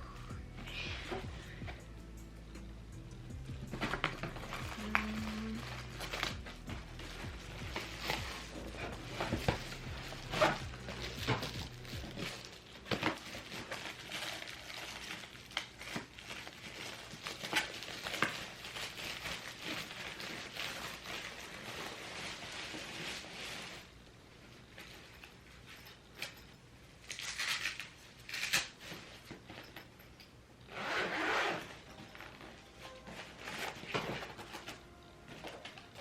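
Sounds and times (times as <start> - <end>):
plastic and cardboard rustling: 3.6 - 26.4, 27.0 - 30.1, 30.8 - 36.0.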